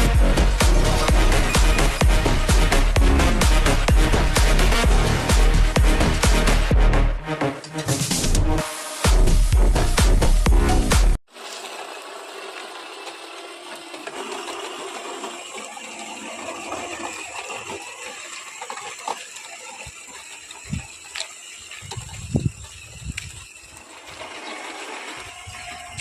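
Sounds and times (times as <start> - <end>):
small electric motor and gearing: 0.0 - 6.7, 9.8 - 26.0.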